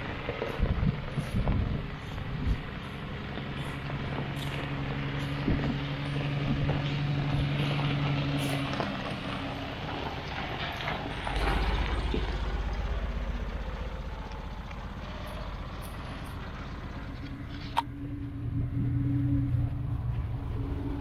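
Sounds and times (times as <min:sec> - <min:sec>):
deep engine rumble: 0:00.0 - 0:21.0
truck engine running: 0:00.0 - 0:21.0.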